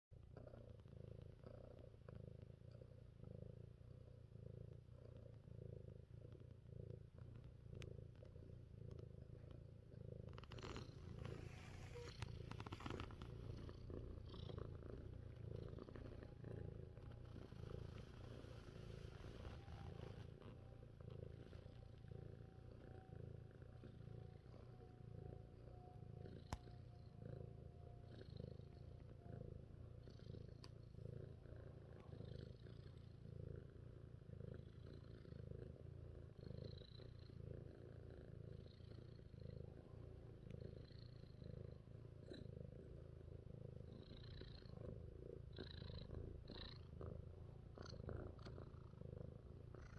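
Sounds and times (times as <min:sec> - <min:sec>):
cat purring: 0:00.1 - 0:49.9.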